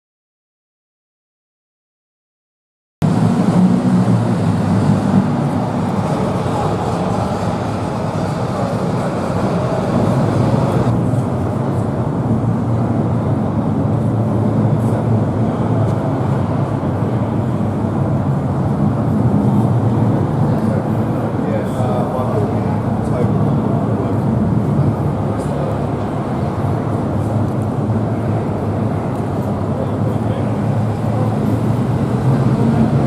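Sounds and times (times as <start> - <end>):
vehicle engine rumbling: 3.0 - 33.0.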